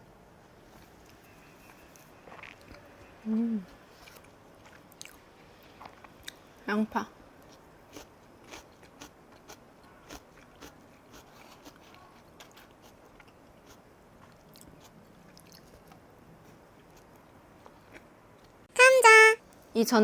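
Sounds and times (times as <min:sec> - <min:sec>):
chewing with small crunches: 0:00.7 - 0:06.6, 0:07.4 - 0:18.6.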